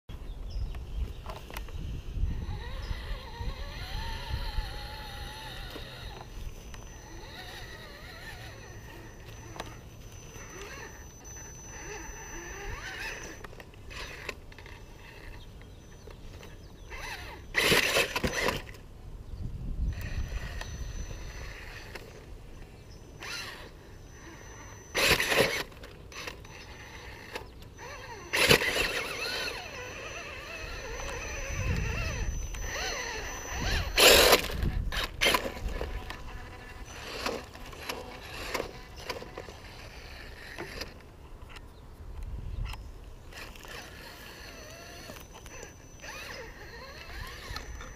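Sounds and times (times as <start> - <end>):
electric motor and gear whine: 0.1 - 47.9.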